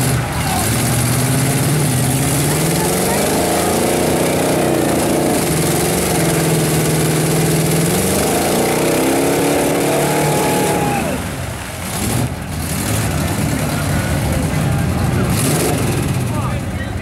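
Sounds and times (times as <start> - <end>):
tyres spinning through mud: 0.0 - 16.4
truck engine revving hard: 0.0 - 17.0.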